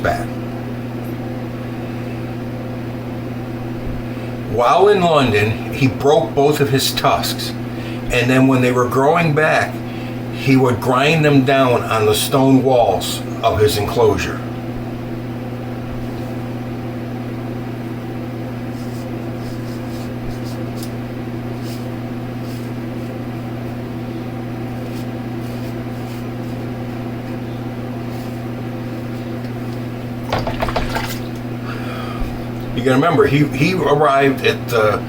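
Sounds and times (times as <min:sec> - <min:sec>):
mechanical hum: 0:00.0 - 0:35.0.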